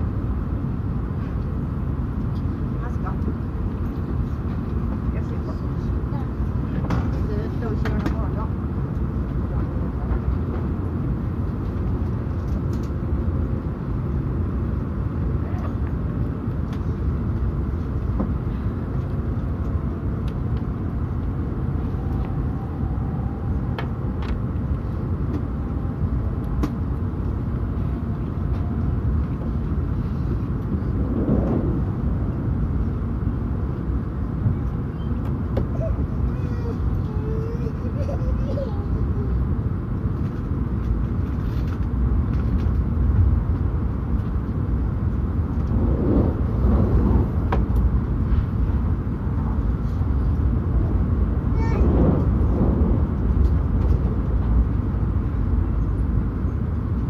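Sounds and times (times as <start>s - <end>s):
train rumble inside cabin: 0.0s - 57.0s.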